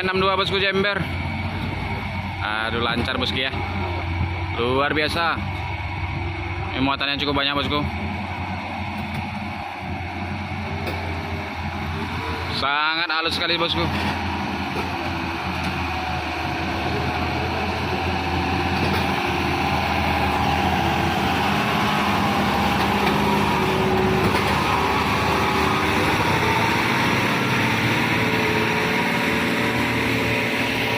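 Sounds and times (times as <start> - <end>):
truck diesel engine under load: 0.0 - 30.9.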